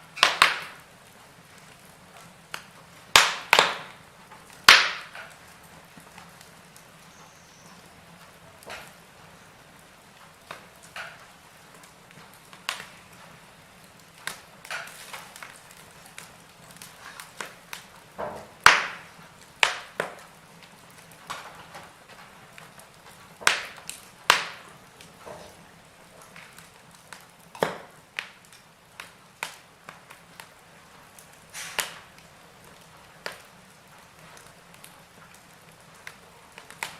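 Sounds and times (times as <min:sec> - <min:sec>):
faint steady hiss: 0:00.0 - 0:36.9
logs crackling in fireplace: 0:00.0 - 0:36.9
sharp pops of burning logs: 0:00.0 - 0:36.9.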